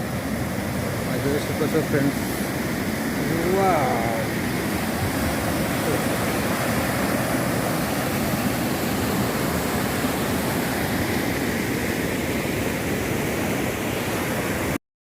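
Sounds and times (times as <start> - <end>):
rushing river water: 0.0 - 14.8.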